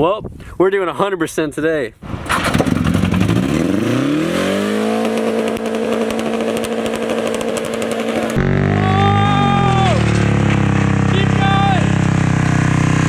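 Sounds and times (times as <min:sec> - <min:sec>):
car engine revving: 0:02.1 - 0:13.0.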